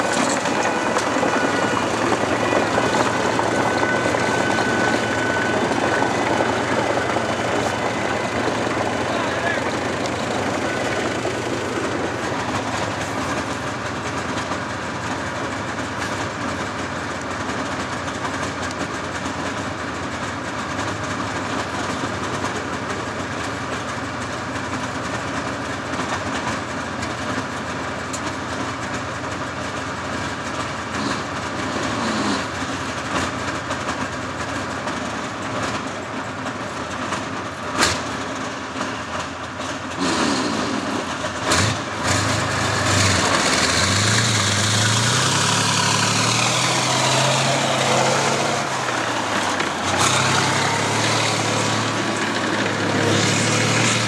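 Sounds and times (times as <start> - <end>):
diesel engine running: 0.0 - 54.0
tracks clanking: 0.0 - 54.0.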